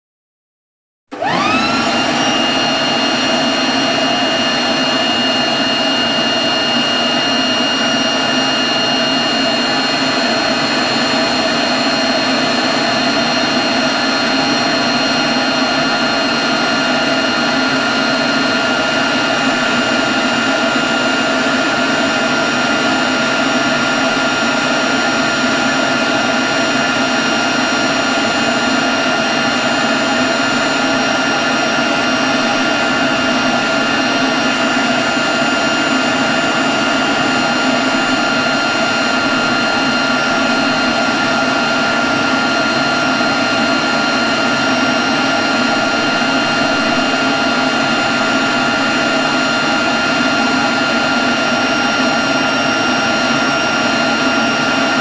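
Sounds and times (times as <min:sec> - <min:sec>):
leaf blower whining: 0:01.1 - 0:55.0.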